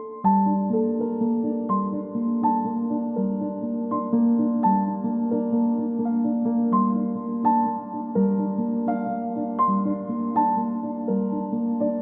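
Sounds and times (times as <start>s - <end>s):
soft slow piano music: 0.0s - 12.0s.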